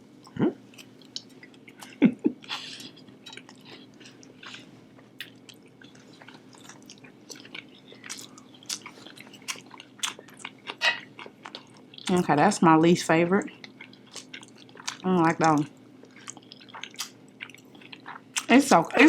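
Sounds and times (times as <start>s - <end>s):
close chewing mouth sounds: 0.7s - 12.3s, 13.4s - 19.0s.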